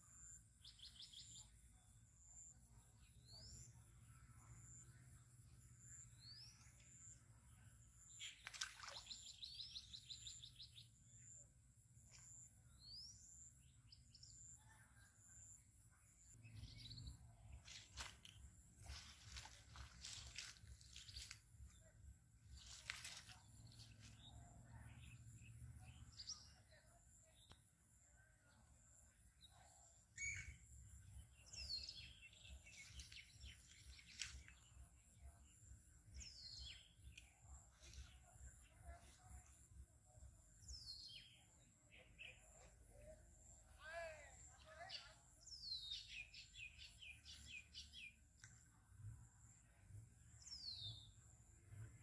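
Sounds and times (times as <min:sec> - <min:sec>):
faint bird chirps: 0:00.0 - 0:48.8.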